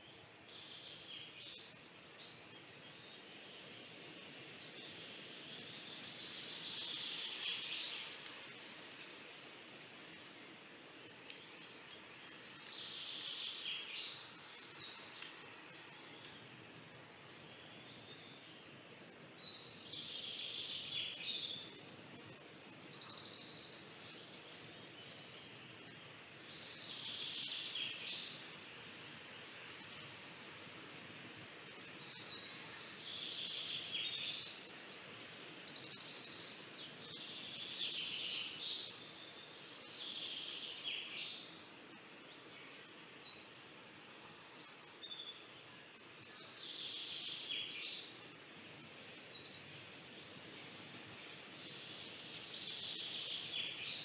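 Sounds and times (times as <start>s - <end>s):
faint steady hiss: 0.0s - 54.0s
songbirds chirping and trilling: 0.0s - 54.0s.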